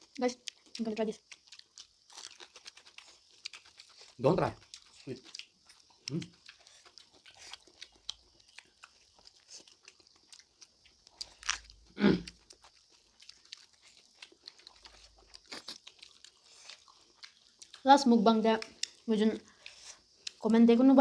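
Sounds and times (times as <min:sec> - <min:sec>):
close-up chewing with wet crunches: 0:00.0 - 0:21.0.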